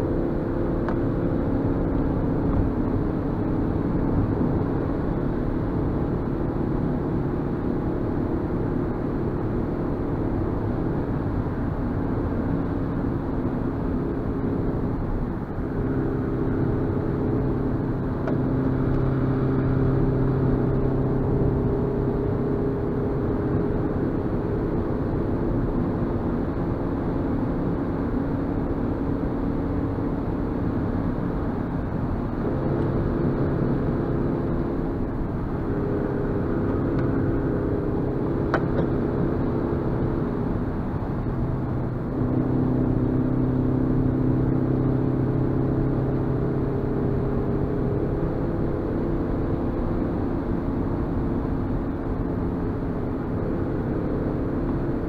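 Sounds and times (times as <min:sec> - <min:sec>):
car engine running: 0:00.0 - 0:55.0
tyre and road noise: 0:00.0 - 0:55.0.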